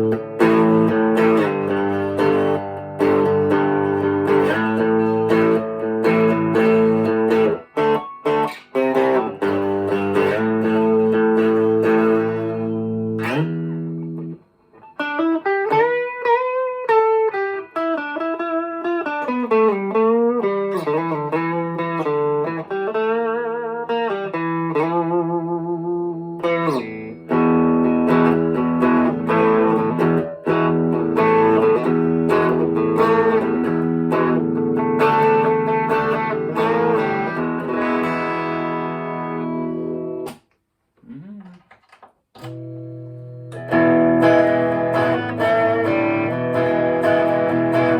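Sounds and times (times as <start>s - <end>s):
overdriven electric guitar: 0.0s - 47.9s.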